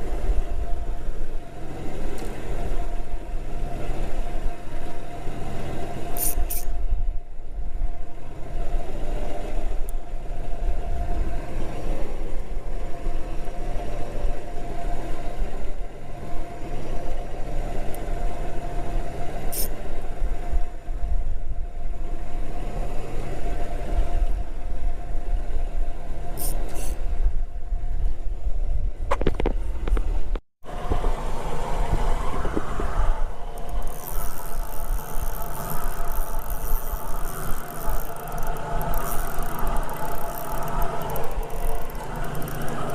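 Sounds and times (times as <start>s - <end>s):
boat engine droning: 0.0s - 28.4s, 30.6s - 42.9s.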